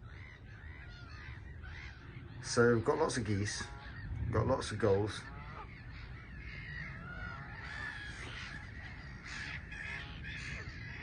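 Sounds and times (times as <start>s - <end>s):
gulls and geese calling: 0.0s - 11.0s
wind rumble on microphone: 0.0s - 11.0s.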